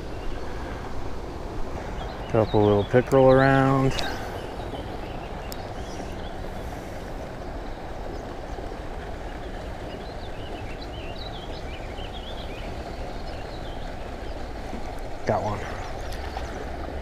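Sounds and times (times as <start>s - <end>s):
low background rumble: 0.0s - 17.0s
small birds chirping: 1.8s - 17.0s.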